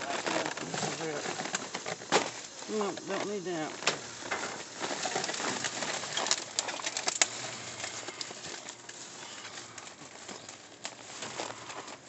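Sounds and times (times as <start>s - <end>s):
trash bags rustling: 0.0s - 12.0s.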